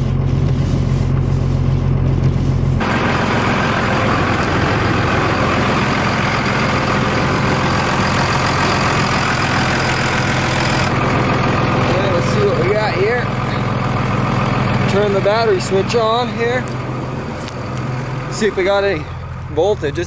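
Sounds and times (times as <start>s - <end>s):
deep low hum: 0.0s - 20.0s
diesel engine idling: 0.0s - 20.0s.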